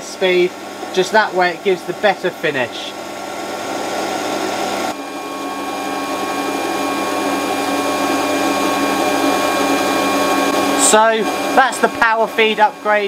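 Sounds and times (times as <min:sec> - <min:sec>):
lathe cutting metal: 0:00.0 - 0:13.0
lathe motor whine: 0:00.0 - 0:13.0.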